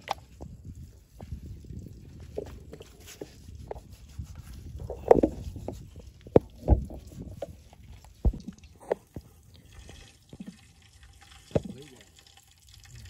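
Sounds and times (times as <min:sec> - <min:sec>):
dripping: 0:00.0 - 0:13.0.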